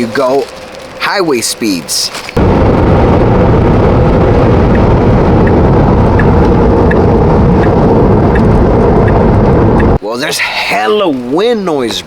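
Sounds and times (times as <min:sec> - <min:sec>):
wind and road noise in car: 0:00.0 - 0:12.0.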